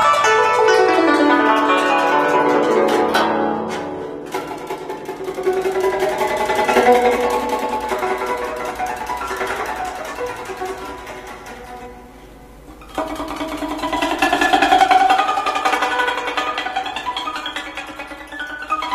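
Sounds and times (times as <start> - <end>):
plucked zither notes: 0.0 - 18.9.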